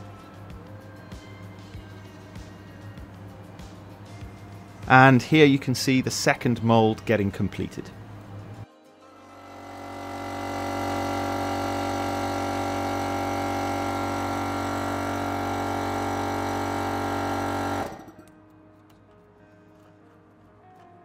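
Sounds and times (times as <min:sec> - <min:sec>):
steady mechanical hum: 0:00.0 - 0:18.2.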